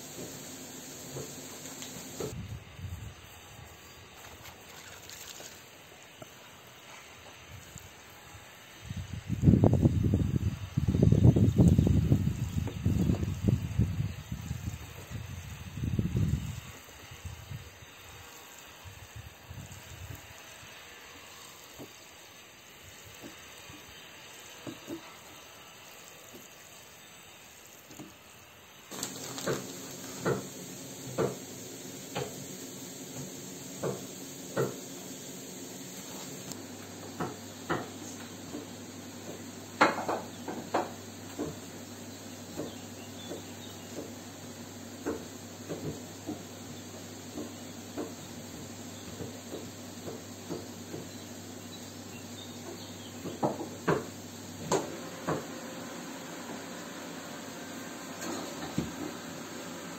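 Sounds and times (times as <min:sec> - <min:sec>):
steady hiss: 0:00.0 - 0:04.2, 0:05.3 - 0:59.9.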